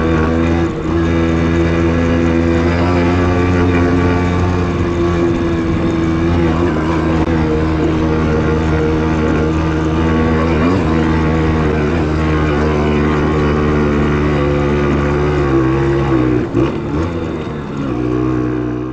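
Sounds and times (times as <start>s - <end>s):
two-stroke moped engine running: 0.0s - 18.9s.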